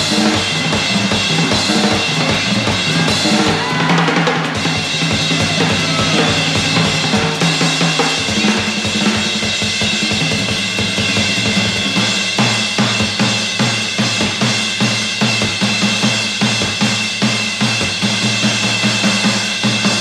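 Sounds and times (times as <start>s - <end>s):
drum kit solo: 0.0s - 20.0s.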